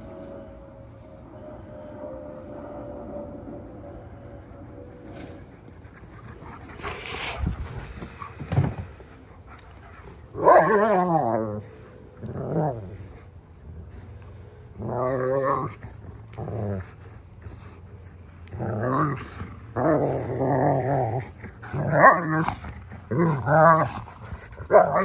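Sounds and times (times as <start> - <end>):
dogs growling and snarling: 4.9 - 25.0.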